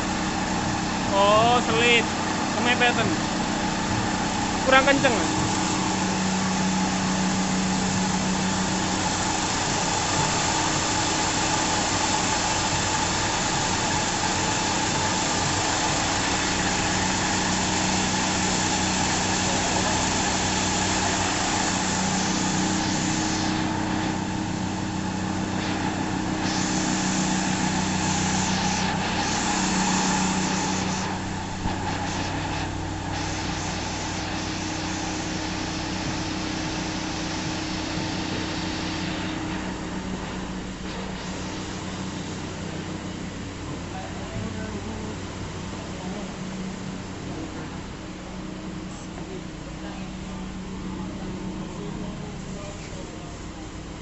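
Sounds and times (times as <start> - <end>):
motor tones: 0.0 - 45.2
foam cutting machine hiss and hum: 0.0 - 54.0.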